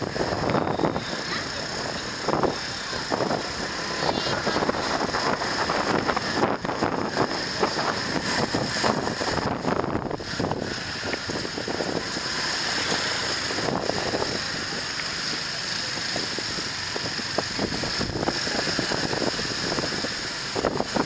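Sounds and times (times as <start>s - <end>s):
drone of traffic: 0.0s - 21.0s
wind buffeting microphone: 0.0s - 21.0s.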